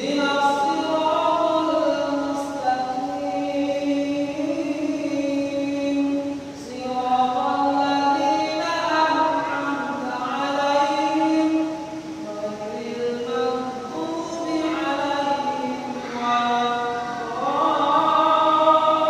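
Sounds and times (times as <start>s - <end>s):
man chanting melodic recitation: 0.0s - 19.0s.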